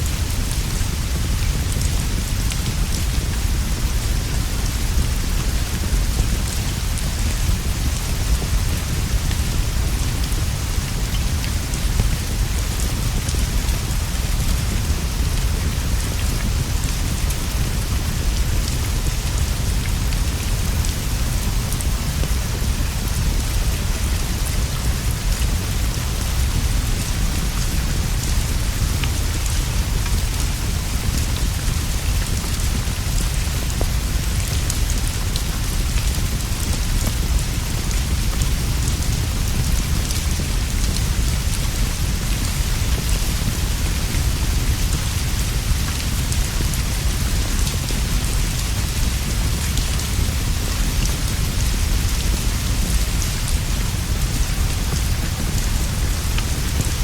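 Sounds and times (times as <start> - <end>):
rain on leaves and straw roof: 0.0 - 57.0.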